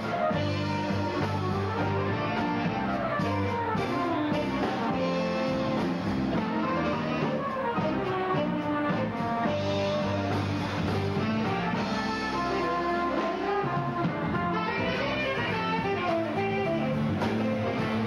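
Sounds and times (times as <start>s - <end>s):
backing band: 0.0s - 18.0s
flugelhorn melody: 0.0s - 18.0s.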